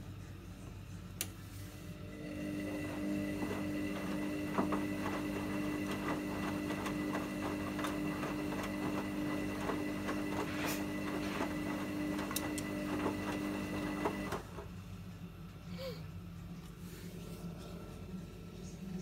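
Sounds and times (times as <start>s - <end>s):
washing machine motor hum: 0.0s - 15.6s.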